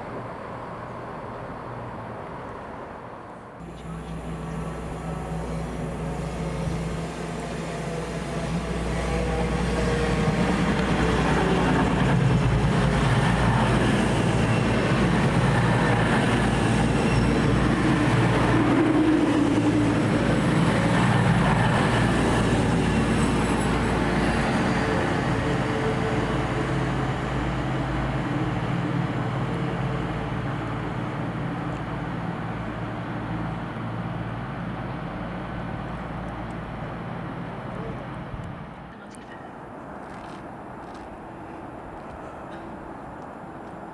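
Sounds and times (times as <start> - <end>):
diesel train passing: 0.0 - 43.9
rumble of train wheels: 0.0 - 43.9.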